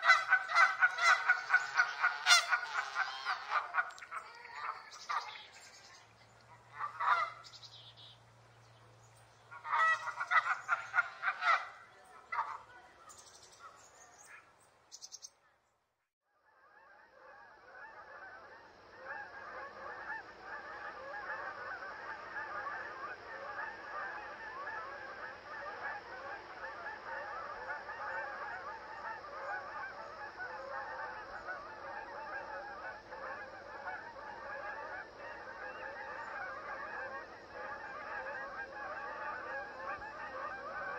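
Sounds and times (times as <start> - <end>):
geese honking: 0.0 - 8.2, 9.4 - 14.5, 16.7 - 40.9.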